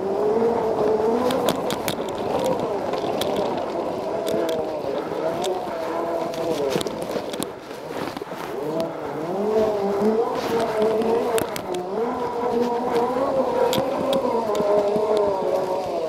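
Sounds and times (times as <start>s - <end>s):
electric drive whining: 0.0s - 16.0s
knocks and rattles from bumps: 0.1s - 16.0s.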